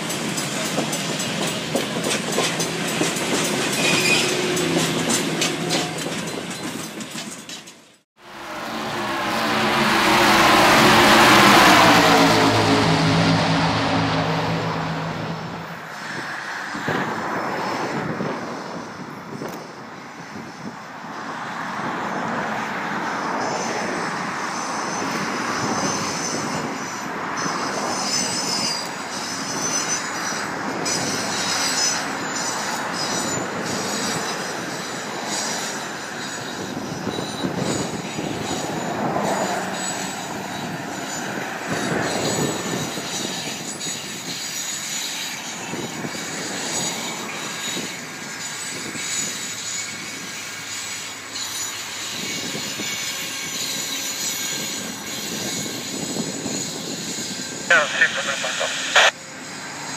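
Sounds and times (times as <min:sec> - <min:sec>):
train wheels rumbling on rails: 0:00.0 - 0:20.7, 0:21.9 - 0:59.6.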